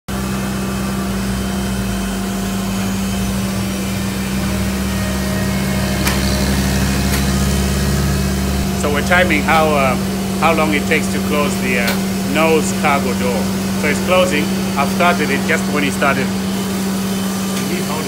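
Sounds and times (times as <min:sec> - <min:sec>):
machinery drone with tonal hum: 0:00.1 - 0:18.0.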